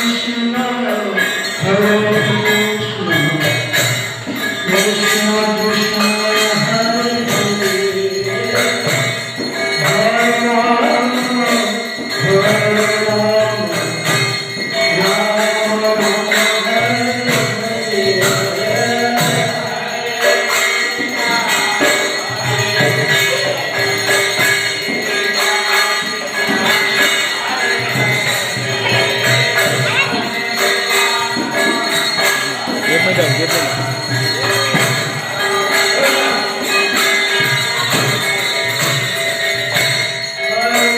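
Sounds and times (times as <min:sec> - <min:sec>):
jingling percussion: 0:00.0 - 0:40.9.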